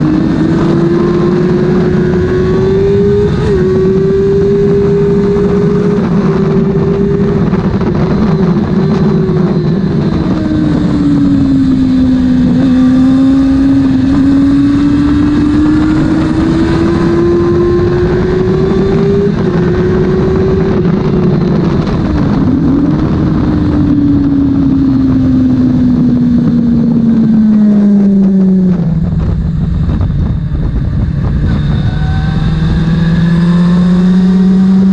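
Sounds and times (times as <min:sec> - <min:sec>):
motorcycle engine racing: 0:00.0 - 0:34.9.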